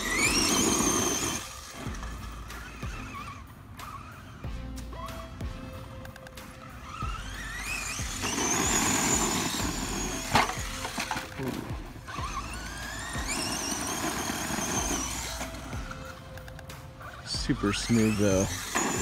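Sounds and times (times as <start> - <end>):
tyres hissing in dirt: 0.0 - 5.3, 6.4 - 19.0
rc truck motor whine: 0.0 - 19.0.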